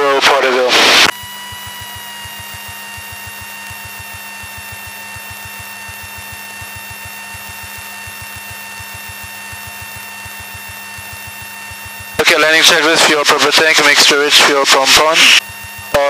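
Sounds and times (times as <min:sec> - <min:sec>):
constant high whine: 0:00.0 - 0:16.0
aircraft engine and propeller drone: 0:00.1 - 0:16.0.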